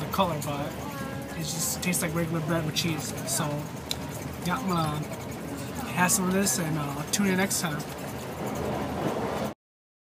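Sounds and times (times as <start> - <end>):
train running noise inside carriage: 0.0 - 9.6.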